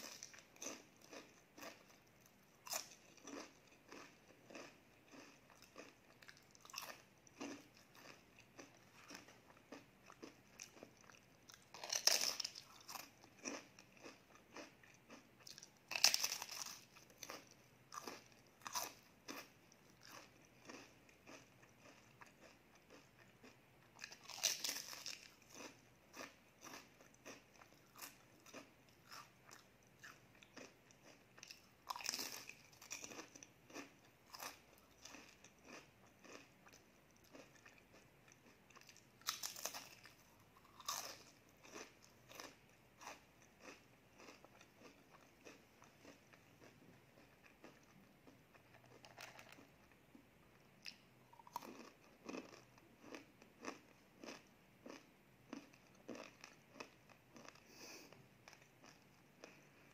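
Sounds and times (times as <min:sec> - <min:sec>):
crunchy pastry chewing: 0:00.0 - 0:50.2, 0:50.8 - 0:59.9.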